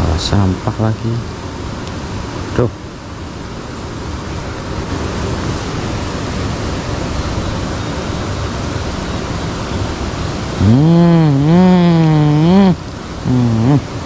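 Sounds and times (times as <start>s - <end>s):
water flowing: 0.0s - 14.0s.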